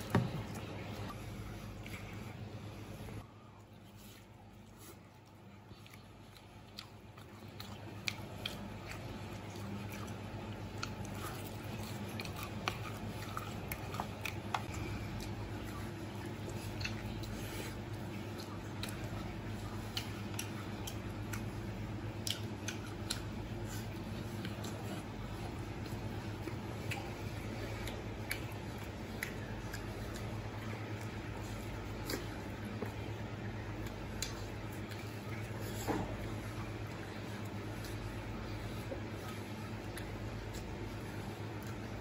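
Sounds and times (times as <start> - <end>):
crunchy chewing: 0.0 - 42.0
steady low hum: 0.0 - 42.0.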